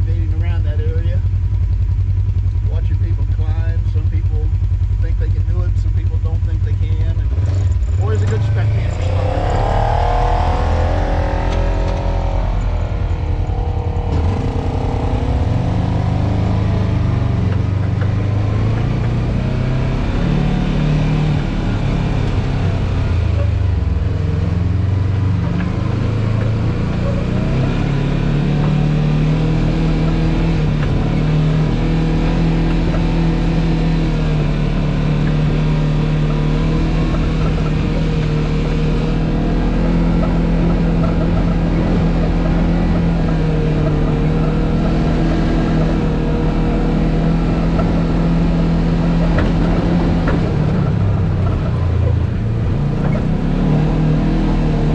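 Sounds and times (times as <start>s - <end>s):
off-road engine revving: 0.0s - 54.9s.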